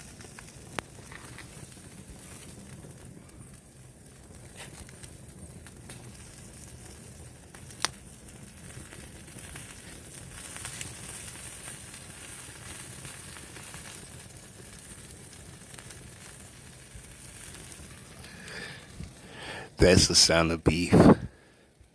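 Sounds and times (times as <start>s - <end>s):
beef sizzling and crackling: 0.0s - 21.6s.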